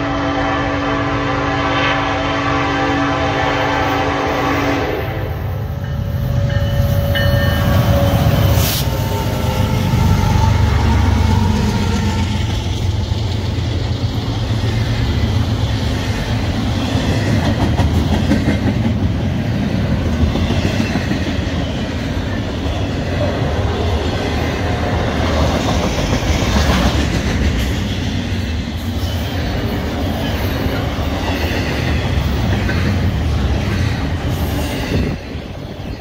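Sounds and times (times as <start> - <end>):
train wheels clickety-clack on rails: 5.7 - 36.0.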